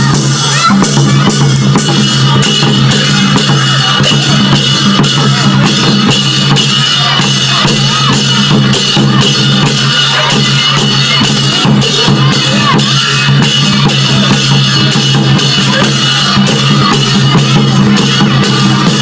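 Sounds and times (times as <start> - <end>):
barrel drums beaten: 0.0 - 19.0
hand cymbals clashing: 0.0 - 19.0.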